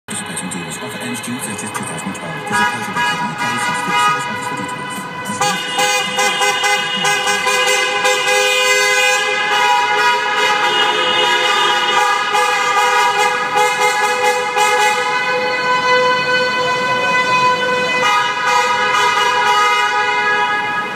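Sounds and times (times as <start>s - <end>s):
car horns honking: 0.1s - 20.9s.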